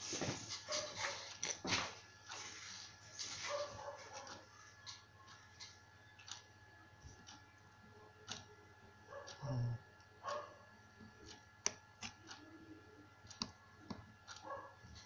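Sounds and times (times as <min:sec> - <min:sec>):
faint clicks and taps: 0:00.2 - 0:08.6, 0:10.0 - 0:12.5, 0:13.2 - 0:15.0.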